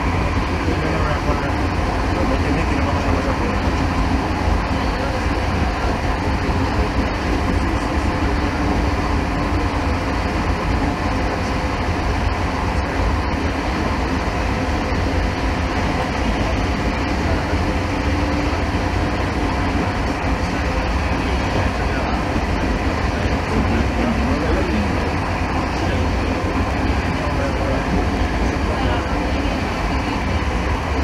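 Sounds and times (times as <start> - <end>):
train rolling rumble: 0.0 - 31.0.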